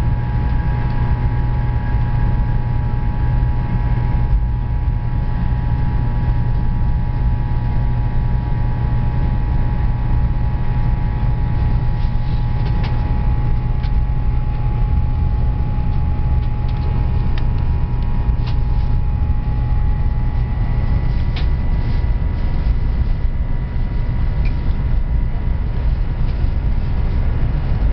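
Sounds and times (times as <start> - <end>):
steady whine: 0.0 - 27.9
train rumbling: 0.0 - 27.9.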